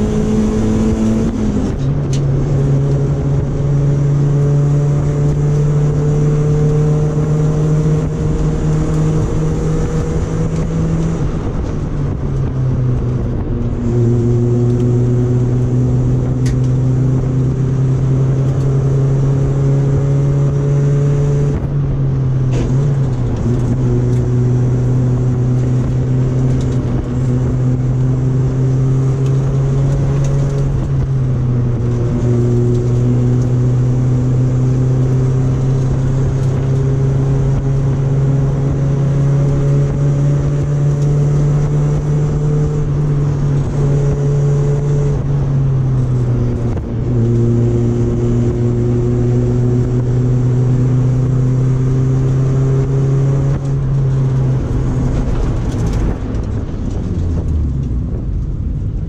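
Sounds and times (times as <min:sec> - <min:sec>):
car engine under load: 0:00.0 - 0:59.0.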